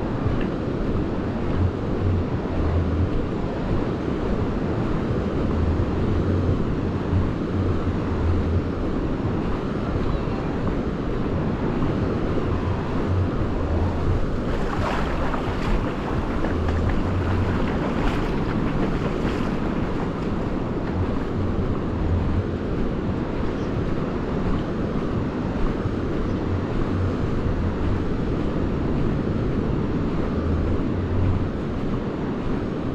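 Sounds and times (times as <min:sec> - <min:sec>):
sea surf: 0:00.0 - 0:32.9
wind buffeting microphone: 0:00.0 - 0:32.9.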